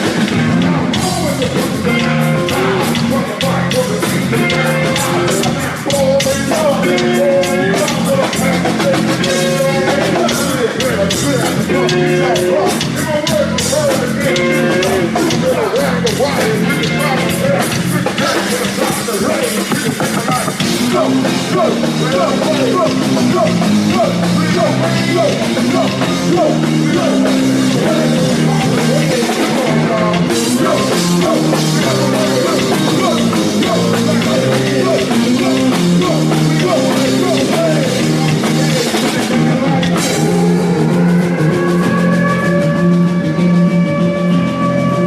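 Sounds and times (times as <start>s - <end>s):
rock band playing loud: 0.0s - 45.0s.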